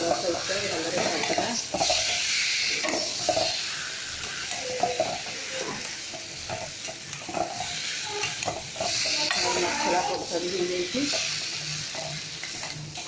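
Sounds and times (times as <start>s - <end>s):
food sizzling in a pan: 0.0s - 13.0s
utensil scraping a pan: 0.0s - 13.0s.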